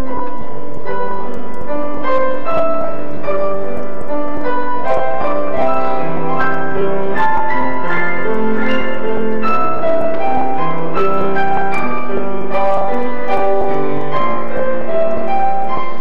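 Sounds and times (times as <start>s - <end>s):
piano notes and chords: 0.0s - 16.0s.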